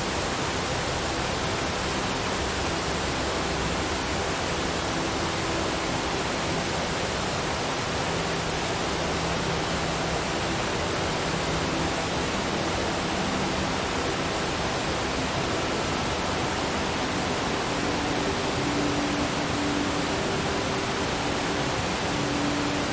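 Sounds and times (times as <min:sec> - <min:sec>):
waterfall roaring: 0:00.0 - 0:22.9.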